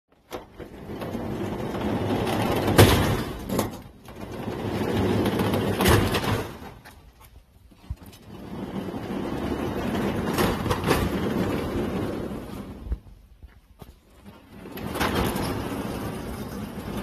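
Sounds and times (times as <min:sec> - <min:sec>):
sliding shutter panels rumbling: 0:00.1 - 0:13.4, 0:14.0 - 0:17.0.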